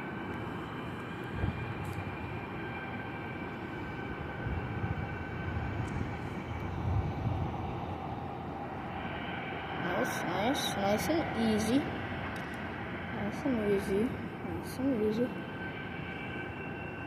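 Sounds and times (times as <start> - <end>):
jet engine rumble: 0.0 - 17.0
jet engines whining: 0.0 - 17.0.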